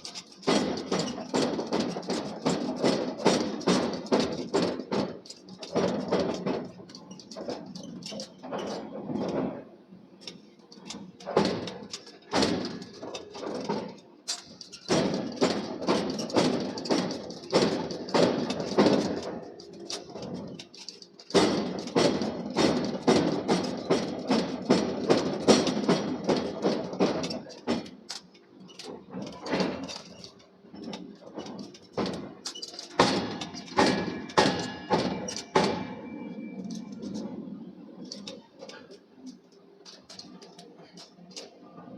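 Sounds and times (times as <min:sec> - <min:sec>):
hammer knocks and clanks on steel: 0:00.0 - 0:09.6, 0:10.2 - 0:37.4.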